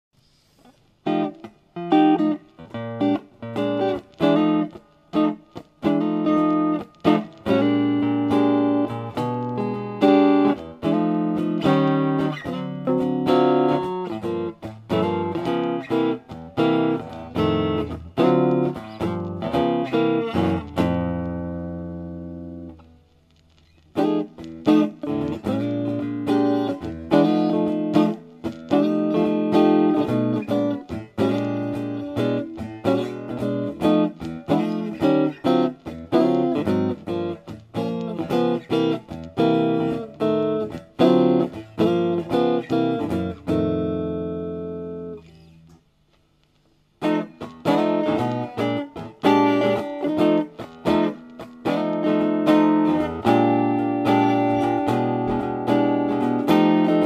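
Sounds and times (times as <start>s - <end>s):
electric guitar playing: 0.5s - 57.0s.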